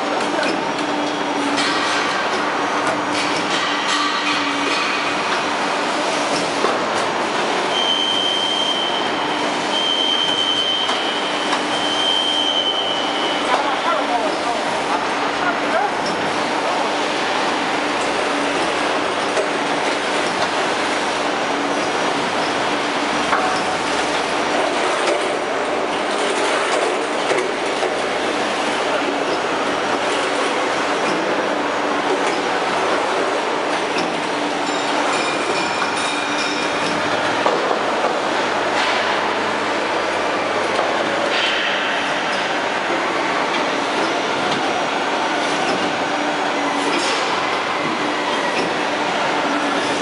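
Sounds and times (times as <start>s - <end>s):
hydraulic riveting machinery: 0.0s - 50.0s.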